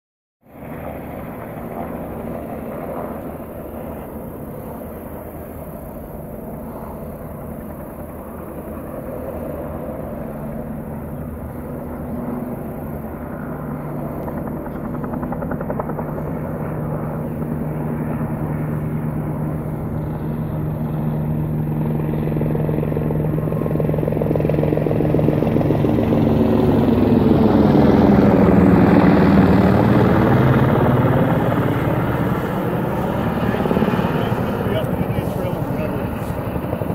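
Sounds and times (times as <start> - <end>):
helicopter rotor and engine droning: 0.4 - 36.9.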